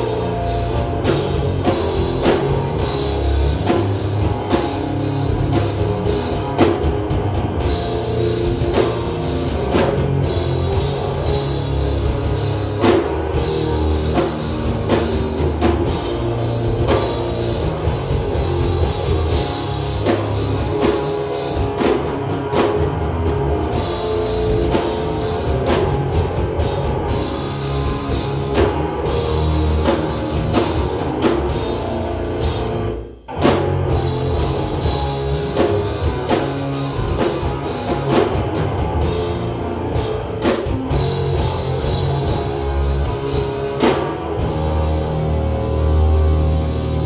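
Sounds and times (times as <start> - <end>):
live heavy rock band: 0.0 - 47.0.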